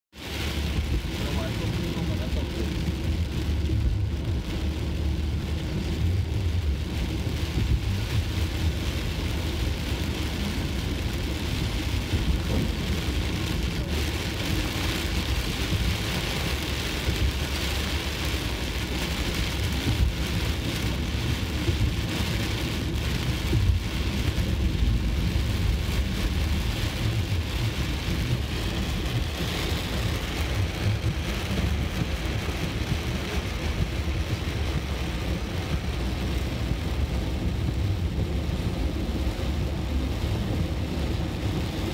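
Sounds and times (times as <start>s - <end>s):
car engine and tyres rumble: 0.1s - 41.9s
heavy rain on car roof: 0.1s - 41.9s.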